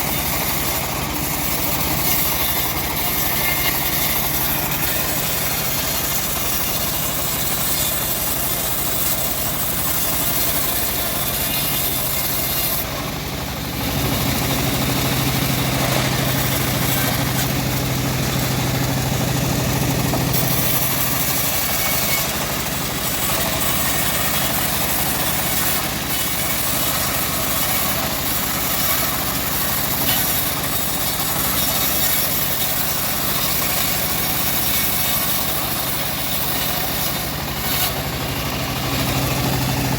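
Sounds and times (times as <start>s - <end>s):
sawmill mechanical drone and hiss: 0.0s - 39.9s.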